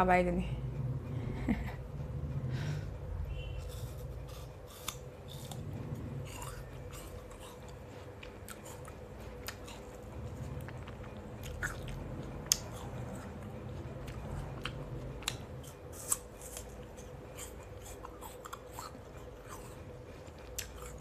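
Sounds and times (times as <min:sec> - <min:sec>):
woman chewing fruit: 0:03.3 - 0:21.0.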